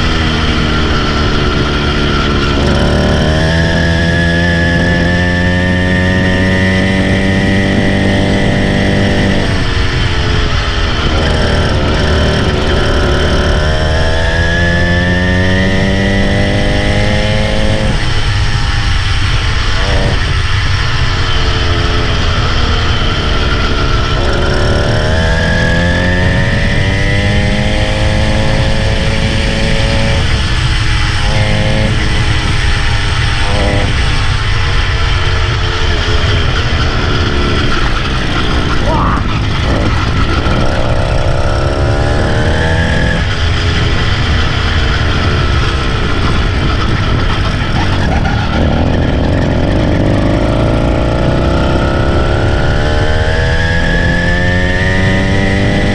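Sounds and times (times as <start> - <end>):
small engine revving: 0.0 - 55.9
wind rumble on microphone: 0.0 - 55.9.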